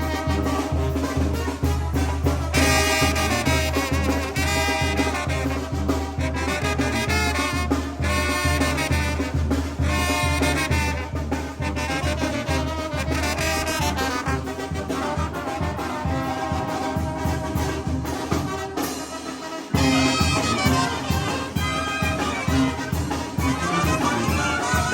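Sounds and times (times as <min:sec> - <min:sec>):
brass band playing: 0:00.0 - 0:24.9.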